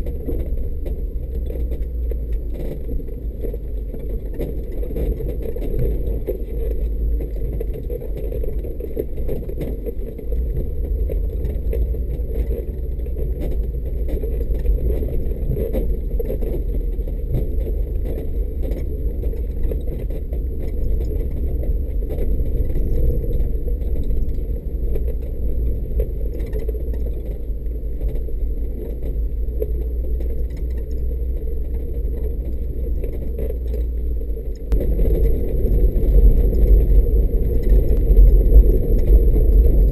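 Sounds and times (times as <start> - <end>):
engine low rumble: 0.0 - 39.9.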